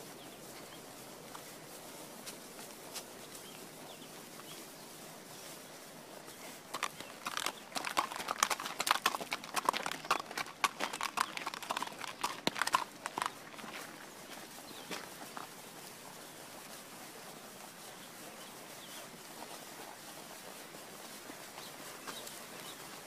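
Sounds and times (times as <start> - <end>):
horse hooves clip-clopping: 0.0 - 23.0.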